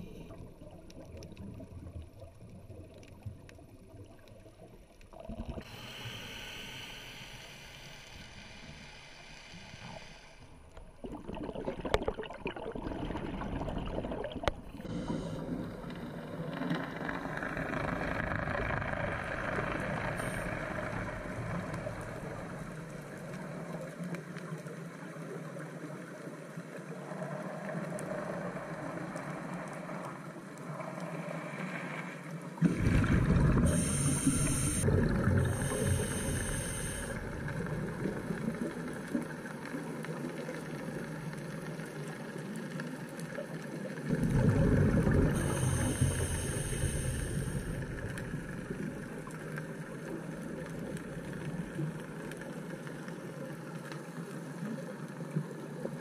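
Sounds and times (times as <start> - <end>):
underwater water wash: 0.0 - 56.0.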